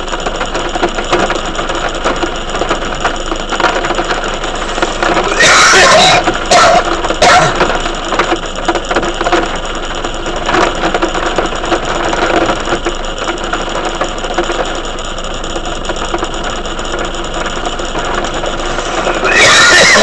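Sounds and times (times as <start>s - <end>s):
heavy rain: 0.7s - 12.8s, 13.4s - 20.0s.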